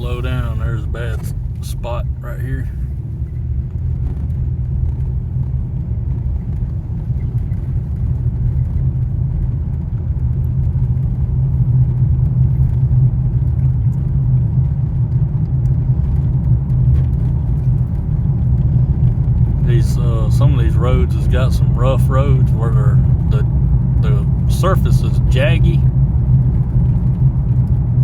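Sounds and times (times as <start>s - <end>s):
car tyres and engine rumbling: 0.0s - 28.0s.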